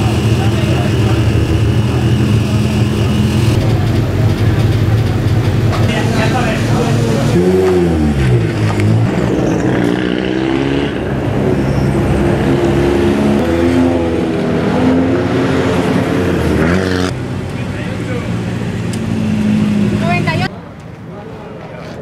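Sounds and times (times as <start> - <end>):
engine revving: 0.0 - 20.5
race car engines running: 0.0 - 22.0.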